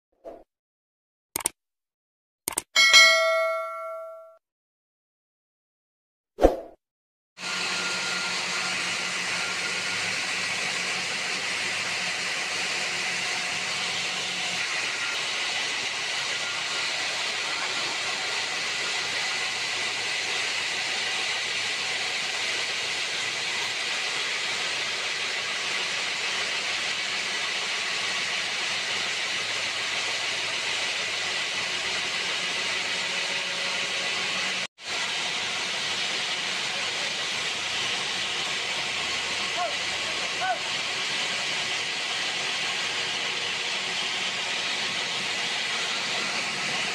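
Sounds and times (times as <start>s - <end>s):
machinery hissing: 7.5s - 46.9s.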